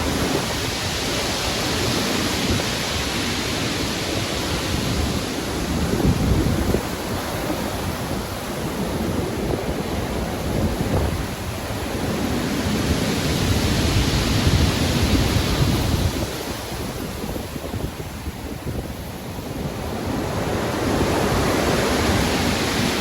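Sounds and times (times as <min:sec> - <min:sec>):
waves breaking: 0:00.0 - 0:23.0
wind: 0:00.0 - 0:23.0.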